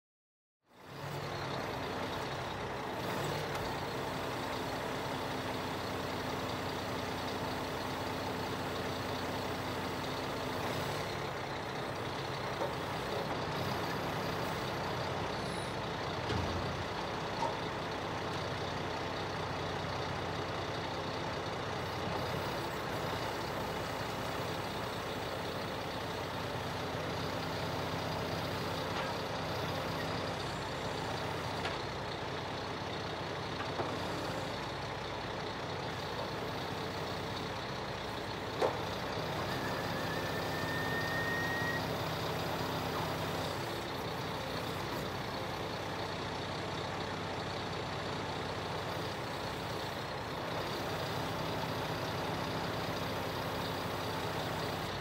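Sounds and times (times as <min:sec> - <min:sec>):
diesel truck engine running: 0:00.7 - 0:55.0.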